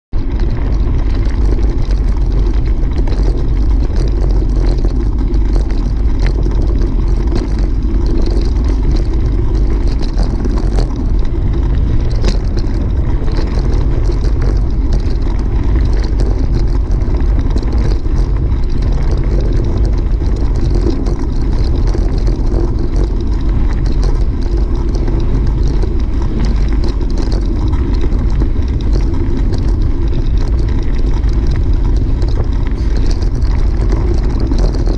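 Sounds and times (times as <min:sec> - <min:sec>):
wind buffeting microphone: 0:00.1 - 0:34.9
tyres crackling over gravel: 0:00.2 - 0:34.9.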